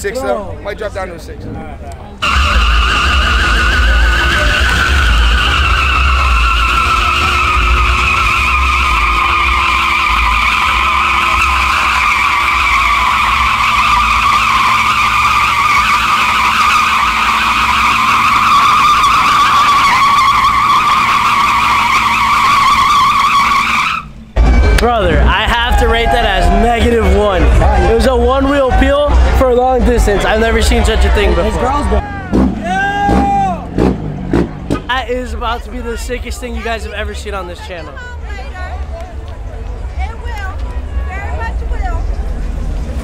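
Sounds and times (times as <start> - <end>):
engine rumble: 0.0 - 43.0
tire squealing: 1.3 - 43.0.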